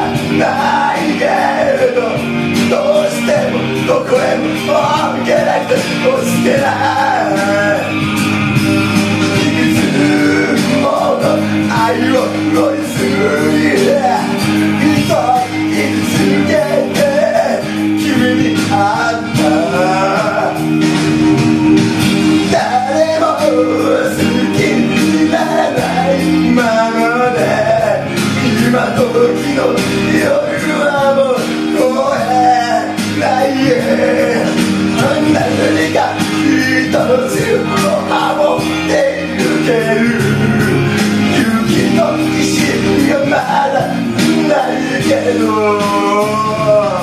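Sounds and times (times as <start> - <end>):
man singing into microphone: 0.0 - 20.8, 22.4 - 47.0
backing track with chords: 0.0 - 47.0.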